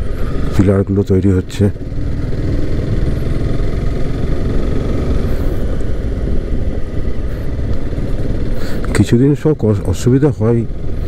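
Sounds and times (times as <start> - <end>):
motorcycle engine running: 0.0 - 11.0
road noise on dirt road: 0.0 - 11.0.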